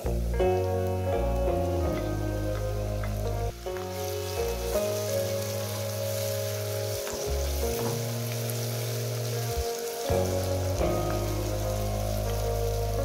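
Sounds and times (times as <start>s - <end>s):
background music with low notes: 0.0s - 13.0s
vegetables sizzling in hot oil: 2.4s - 13.0s.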